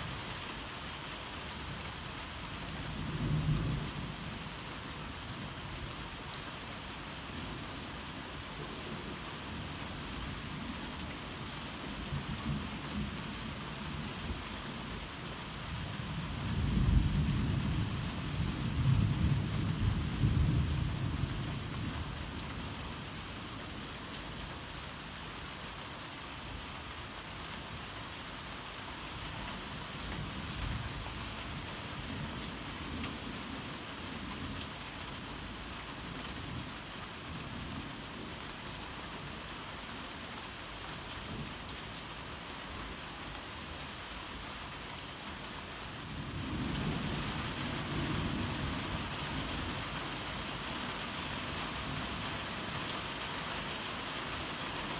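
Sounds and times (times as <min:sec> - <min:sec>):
heavy rain pattering: 0:00.0 - 0:54.9.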